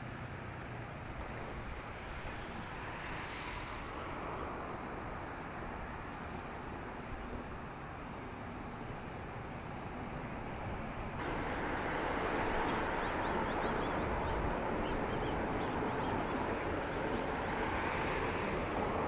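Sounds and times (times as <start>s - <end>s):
steady outdoor noise: 0.0s - 19.0s.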